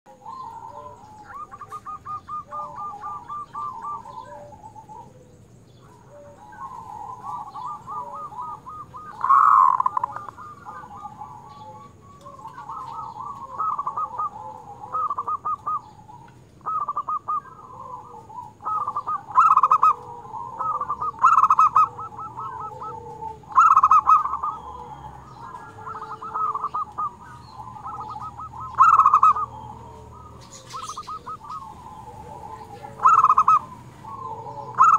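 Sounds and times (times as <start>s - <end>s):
dove cooing: 0.1s - 34.9s.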